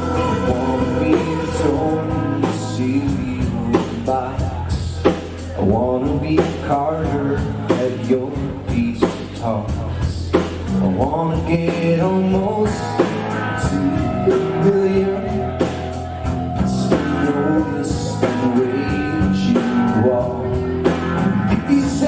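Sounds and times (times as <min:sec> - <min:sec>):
man singing: 0:00.0 - 0:22.0
rock band playing: 0:00.0 - 0:22.0.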